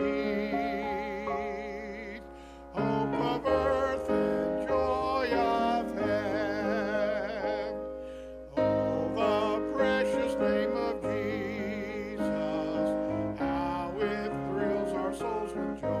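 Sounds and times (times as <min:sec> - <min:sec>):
person singing a hymn: 0:00.0 - 0:16.0.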